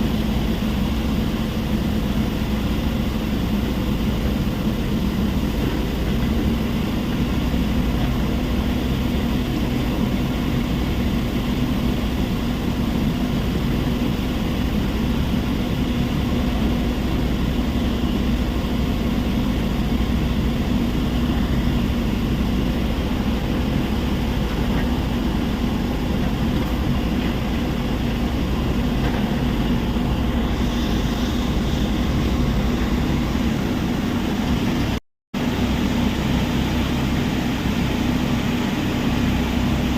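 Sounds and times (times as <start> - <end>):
heavy machinery droning: 0.0 - 39.9.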